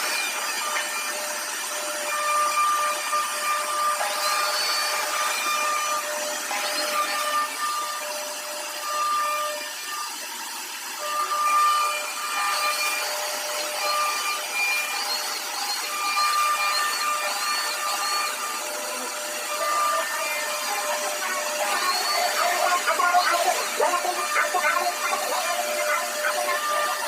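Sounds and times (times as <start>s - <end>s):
router spindle hissing: 0.0s - 27.0s
stepper motors whining: 0.0s - 27.0s.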